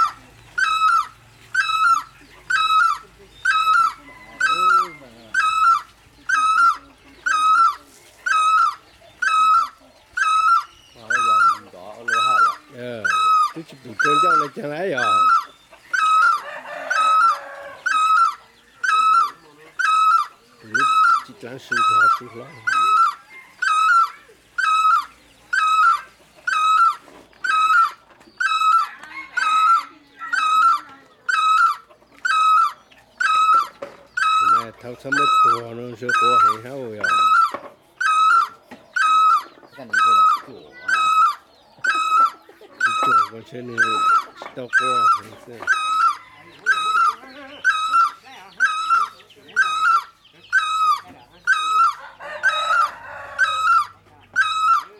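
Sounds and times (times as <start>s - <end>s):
bird calling mellow notes: 0.0s - 54.9s.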